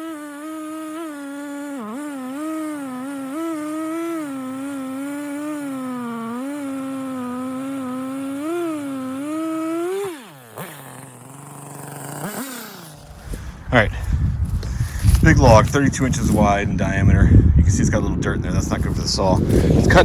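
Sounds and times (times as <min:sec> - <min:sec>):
chainsaw cutting then idling: 0:00.0 - 0:16.5, 0:18.7 - 0:20.0.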